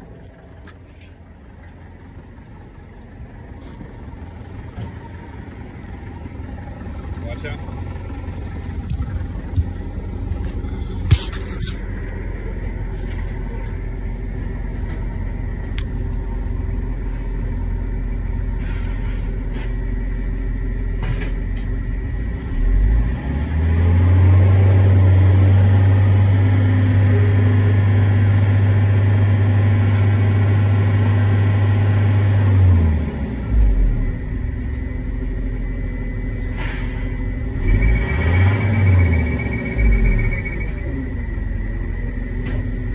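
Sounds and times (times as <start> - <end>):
diesel engine idling and revving: 0.0 - 42.9.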